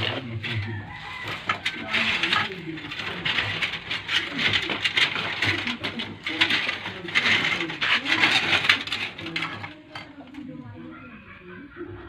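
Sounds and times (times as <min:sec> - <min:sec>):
wire scraping and clinking: 0:00.0 - 0:11.2.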